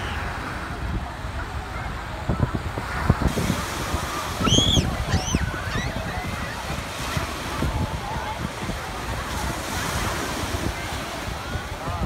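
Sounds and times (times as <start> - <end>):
breaking surf: 0.0 - 12.0
distant crowd voices: 0.0 - 12.0
wind buffeting microphone: 0.0 - 12.0.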